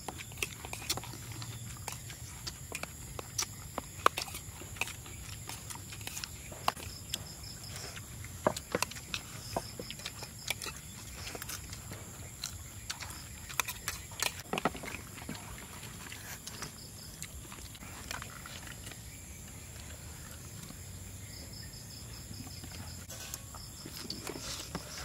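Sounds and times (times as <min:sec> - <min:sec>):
night insects chirring: 0:00.0 - 0:25.0
people chewing: 0:00.0 - 0:25.0.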